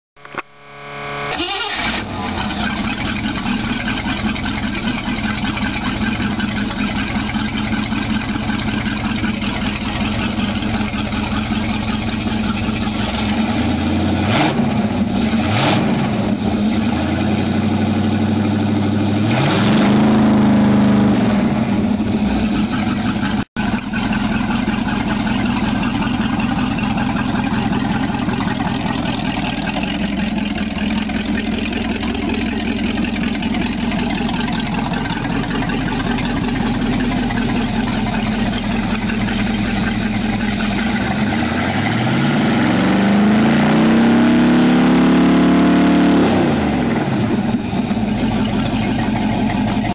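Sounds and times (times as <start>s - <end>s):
boat engine idling and revving: 0.9s - 49.9s.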